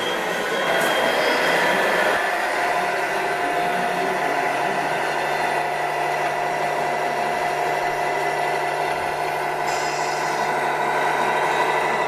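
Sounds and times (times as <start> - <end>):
electronic diesel engine sound: 0.0 - 12.0.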